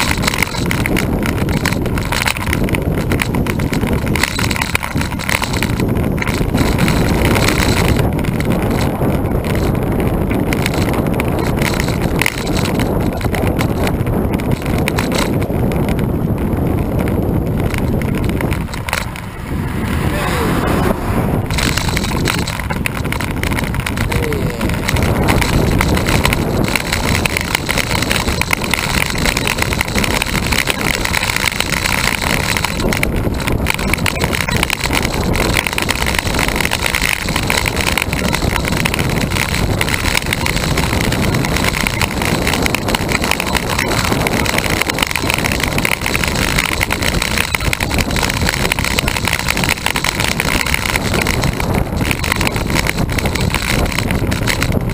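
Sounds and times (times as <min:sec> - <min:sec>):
bicycle tyre and road noise: 0:00.0 - 0:54.9
wind on microphone: 0:00.0 - 0:54.9.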